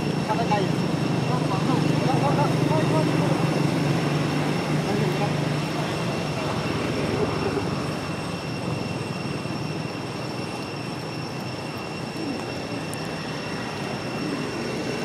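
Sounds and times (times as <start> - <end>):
faint constant high tones: 0.0 - 15.0
rumbling hiss: 0.0 - 15.0.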